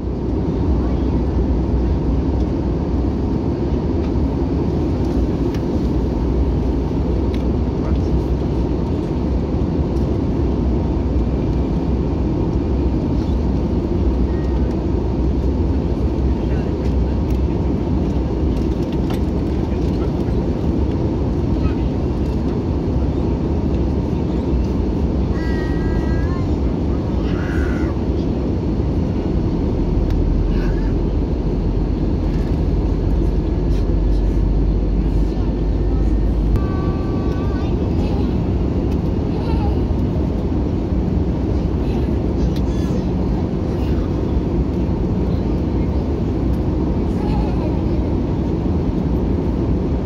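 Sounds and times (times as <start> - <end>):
airplane cabin rumble: 0.0 - 50.0.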